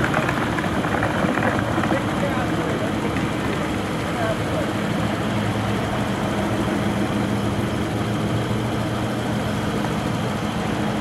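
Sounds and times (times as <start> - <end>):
car engines humming: 0.0 - 11.0.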